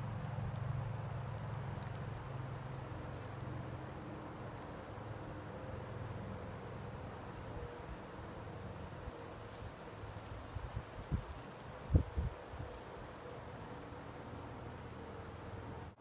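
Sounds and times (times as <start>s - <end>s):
faint insect chirping: 0.0s - 16.0s.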